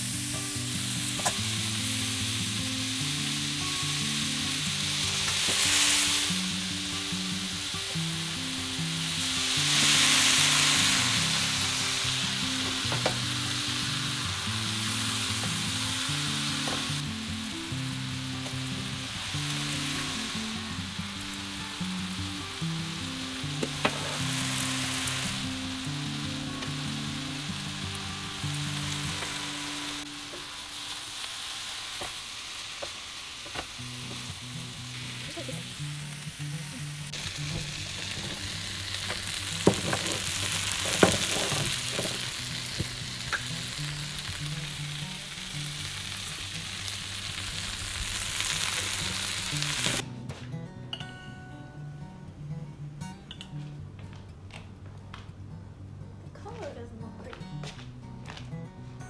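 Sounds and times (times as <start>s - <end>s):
noodles sizzling in a pan: 0.0s - 50.0s.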